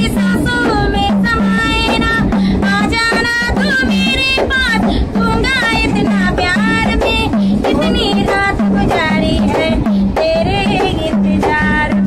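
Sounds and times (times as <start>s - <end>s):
frame drum beat: 0.0s - 12.0s
woman singing high: 0.0s - 12.0s.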